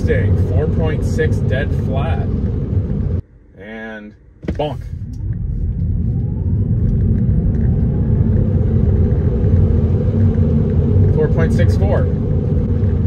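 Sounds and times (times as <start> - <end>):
road and tyre rumble: 0.0 - 3.2, 4.4 - 13.0.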